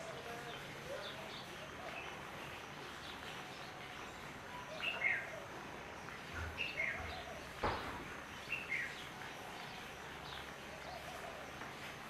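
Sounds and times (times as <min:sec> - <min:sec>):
steady background hiss: 0:00.0 - 0:12.0
wild birds chirping: 0:00.0 - 0:12.0.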